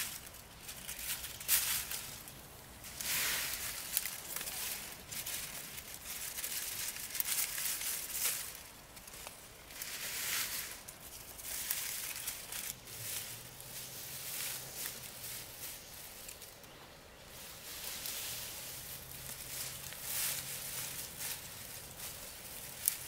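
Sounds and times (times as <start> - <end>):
dry plant material rustling: 0.0 - 23.0.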